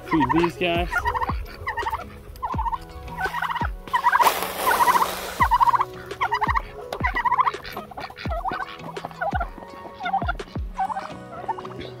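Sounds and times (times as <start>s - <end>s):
turkey gobbling: 0.0s - 12.0s.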